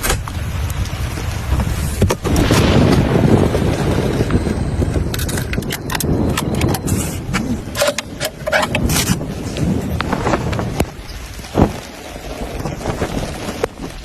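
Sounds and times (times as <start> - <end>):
deep low rumble: 0.0 - 14.0
sharp rain taps: 0.0 - 14.0.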